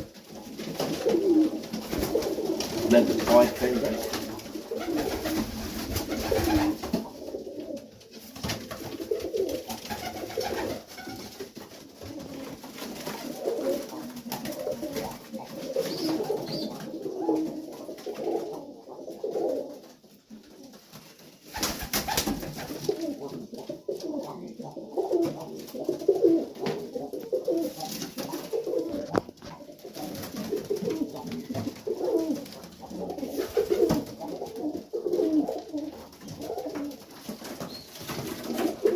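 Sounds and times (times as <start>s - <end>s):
pigeons cooing: 0.0s - 8.0s, 8.6s - 11.3s, 12.0s - 19.8s, 21.5s - 38.9s.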